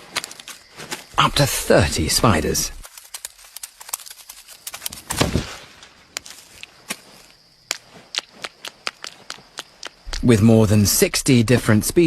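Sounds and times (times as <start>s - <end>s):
dry grass crackling and rustling: 0.0s - 10.3s.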